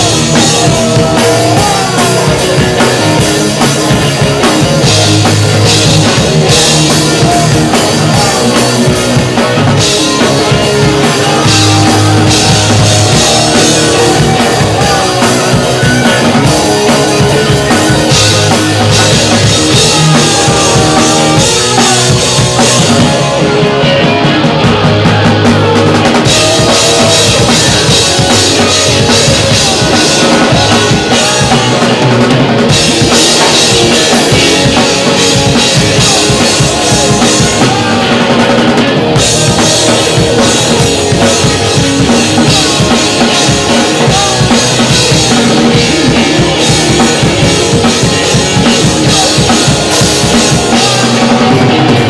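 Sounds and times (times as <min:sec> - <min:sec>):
bass guitar: 0:00.0 - 0:52.0
drum kit with cymbals: 0:00.0 - 0:52.0
electric guitars: 0:00.0 - 0:52.0.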